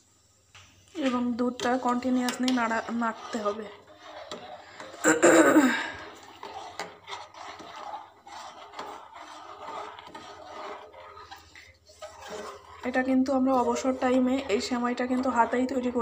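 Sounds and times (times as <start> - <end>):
metal spoon scraping a pan: 1.0 - 16.0.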